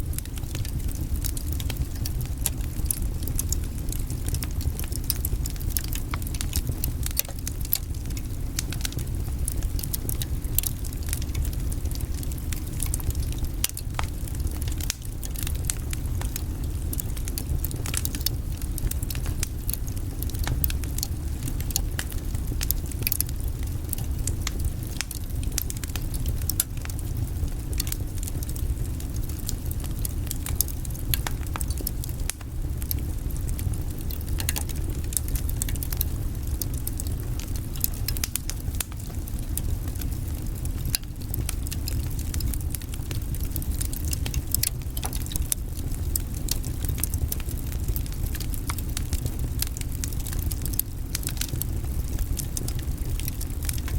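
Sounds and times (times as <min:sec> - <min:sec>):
fire crackling and popping: 0:00.0 - 0:53.9
fire flames rumbling: 0:00.0 - 0:53.9.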